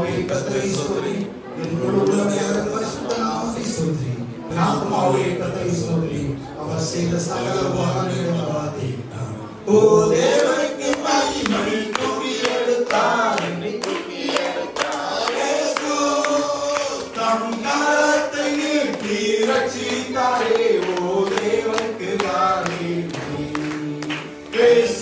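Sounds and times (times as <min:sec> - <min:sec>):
man singing into microphone: 0:00.0 - 0:14.0, 0:15.2 - 0:25.0
group singing worship song: 0:00.0 - 0:25.0.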